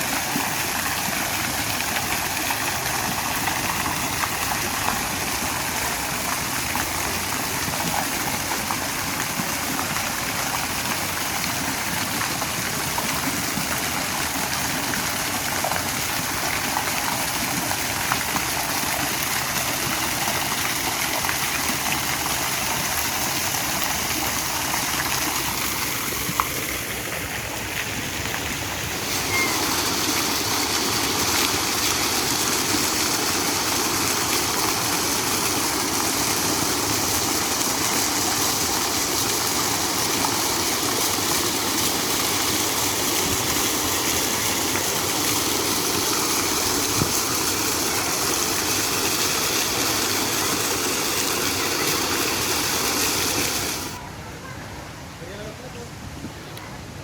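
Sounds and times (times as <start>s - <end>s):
water splashing and rushing: 0.0s - 54.1s.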